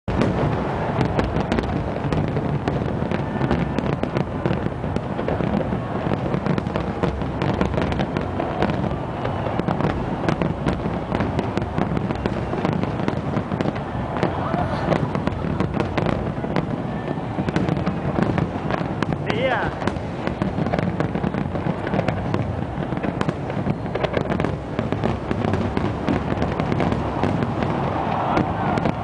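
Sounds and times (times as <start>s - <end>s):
fireworks popping and crackling: 0.0s - 29.0s
fireworks rumbling bangs: 0.0s - 29.0s.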